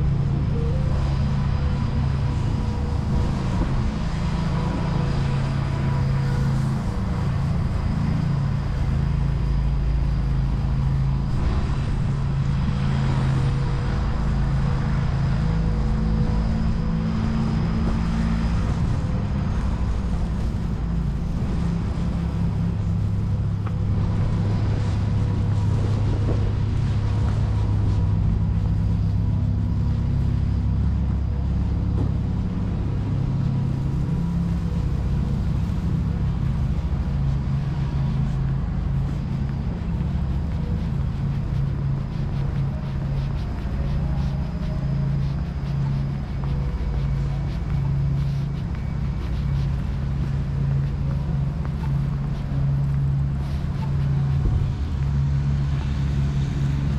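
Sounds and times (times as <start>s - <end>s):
faint steady whine: 0.0s - 56.9s
traffic rumble: 0.0s - 56.9s
vehicle engine running: 0.0s - 56.9s.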